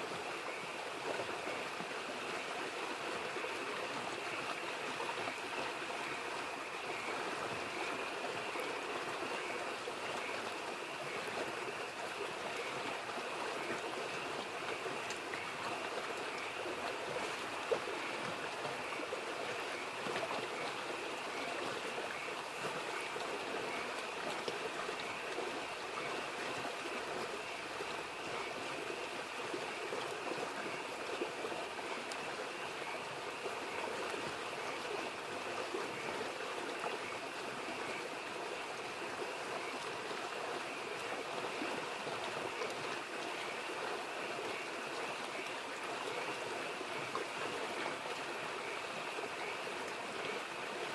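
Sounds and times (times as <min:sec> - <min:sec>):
frogs croaking: 0:00.0 - 0:50.9
mountain stream babbling: 0:00.0 - 0:50.9.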